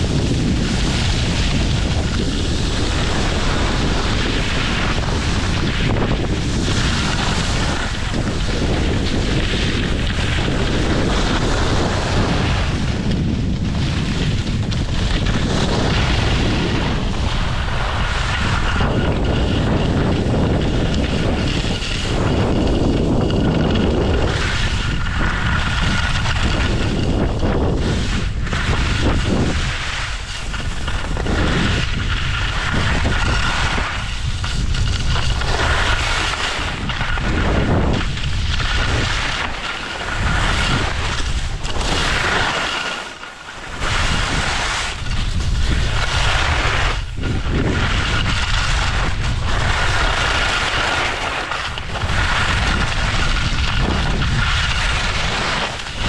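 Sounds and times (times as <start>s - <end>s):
skis scraping over snow: 0.0s - 56.0s
wind rushing over microphone: 0.0s - 56.0s.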